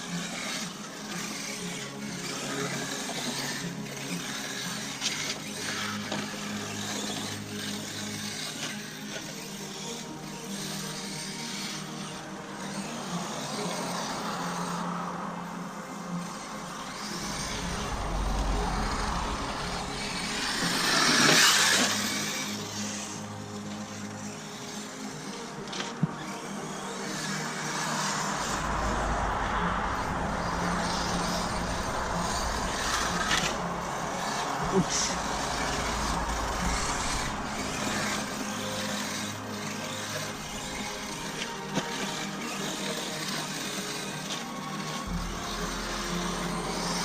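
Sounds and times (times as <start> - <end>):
electric rc car motor: 0.0 - 47.0
tyres on gravel: 0.0 - 47.0.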